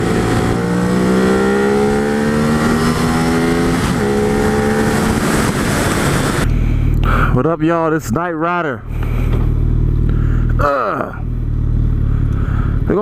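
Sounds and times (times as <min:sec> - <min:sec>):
vehicle engine accelerating hard: 0:00.0 - 0:07.8, 0:08.8 - 0:13.0.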